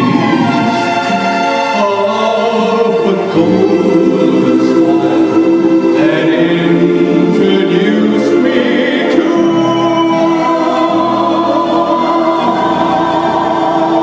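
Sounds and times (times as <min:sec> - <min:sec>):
backing track of sustained chords: 0:00.0 - 0:14.0.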